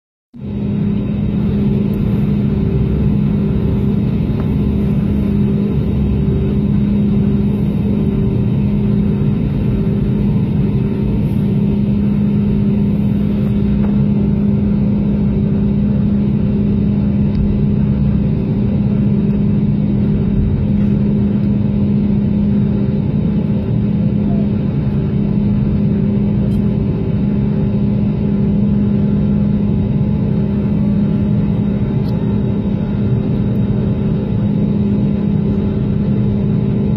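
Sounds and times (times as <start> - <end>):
airplane engine and airflow noise: 0.4 - 36.9.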